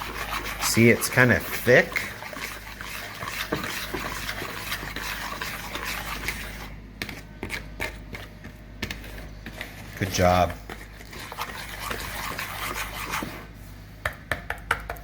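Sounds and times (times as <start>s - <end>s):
whisk scraping against bowl: 0.0s - 13.8s.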